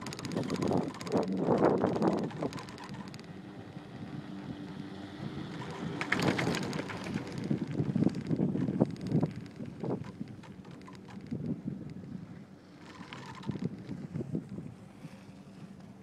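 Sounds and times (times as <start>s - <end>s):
chairlift hum and clicking: 0.0s - 16.0s
wind buffeting microphone: 0.0s - 16.0s.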